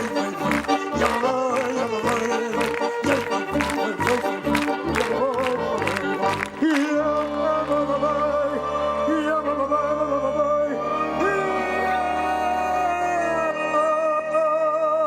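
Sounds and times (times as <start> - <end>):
rhythmic accompaniment: 0.0 - 12.2.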